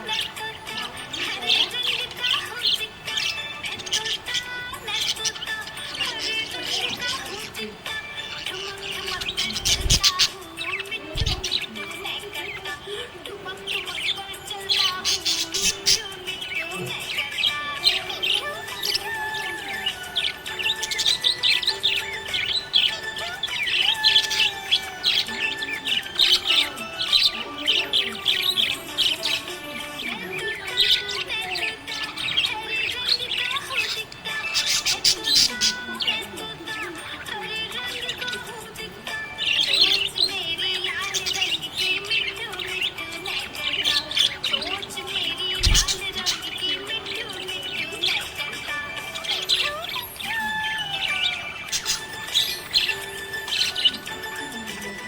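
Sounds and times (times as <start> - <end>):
background music: 0.0 - 55.0
budgerigars chirping and warbling: 0.0 - 55.0.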